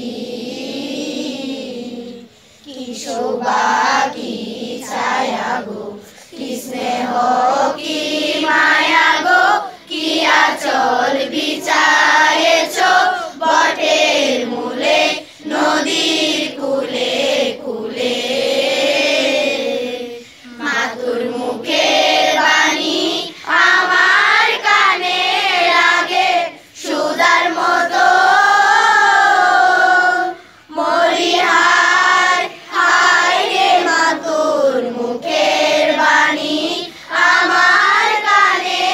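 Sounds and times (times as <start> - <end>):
children singing in unison: 0.0 - 38.9.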